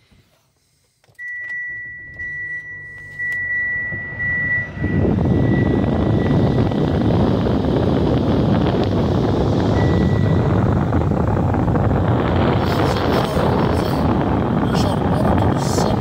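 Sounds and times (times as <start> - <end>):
ignition clicks: 0.6 - 14.6
car engine idling: 1.1 - 16.0
high electrical tone: 1.2 - 16.0.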